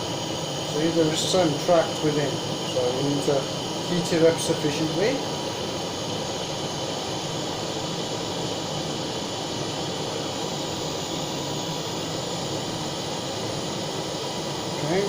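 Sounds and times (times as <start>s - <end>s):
blowtorch flame hissing: 0.0s - 15.0s.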